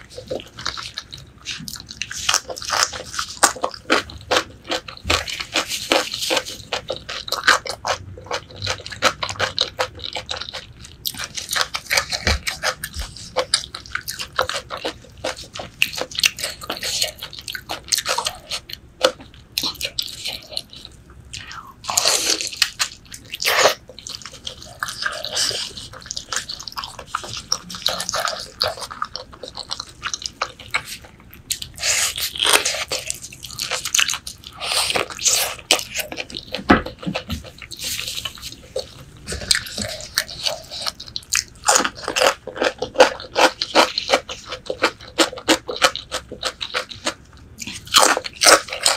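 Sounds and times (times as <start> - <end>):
wet chewing and biting: 0.0 - 48.9.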